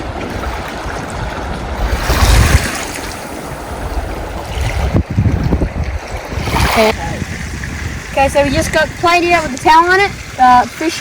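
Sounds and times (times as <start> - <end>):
sea waves breaking: 0.0 - 11.0
wind buffeting microphone: 0.0 - 11.0.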